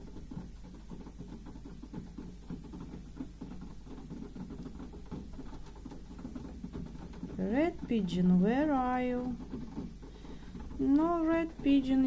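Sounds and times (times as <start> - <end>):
pigeons pecking taps: 0.0 - 12.0.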